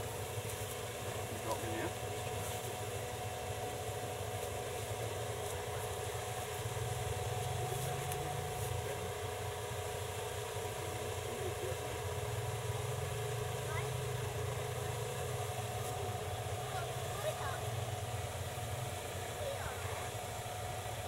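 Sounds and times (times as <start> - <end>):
engine idling: 0.0 - 21.0
faint steady whine: 0.0 - 21.0.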